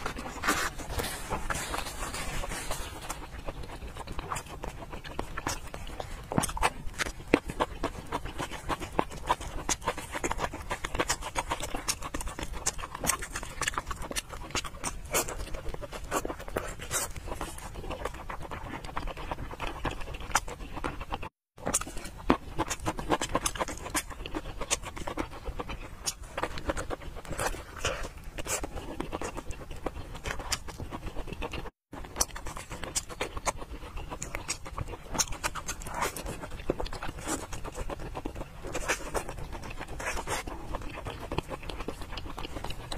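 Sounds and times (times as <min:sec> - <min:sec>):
mouth chewing clicks and squelches: 0:00.0 - 0:42.9.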